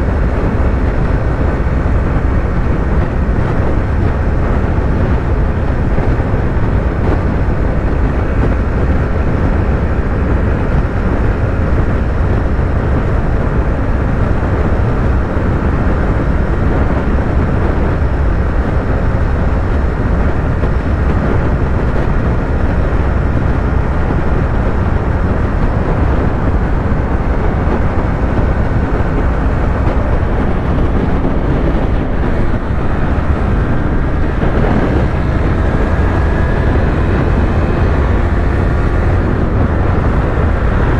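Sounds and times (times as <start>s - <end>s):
low wind rush: 0.0s - 40.9s
motorcycle engine running: 0.0s - 40.9s.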